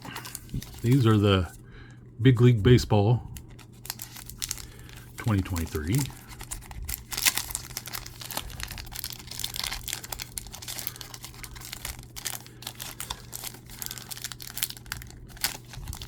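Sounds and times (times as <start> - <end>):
foil wrapper crinkling: 0.0 - 1.6, 3.4 - 16.0
steady low hum: 0.0 - 16.0.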